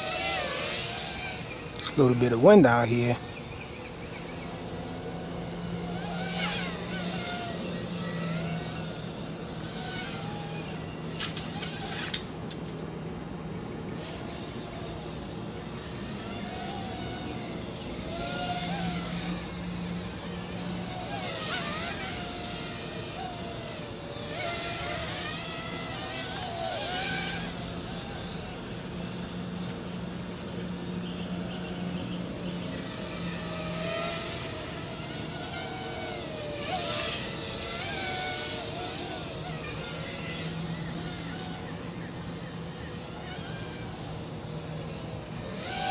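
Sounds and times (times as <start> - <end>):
crickets chirping: 0.0 - 45.9
quadcopter motors whining: 0.0 - 45.9.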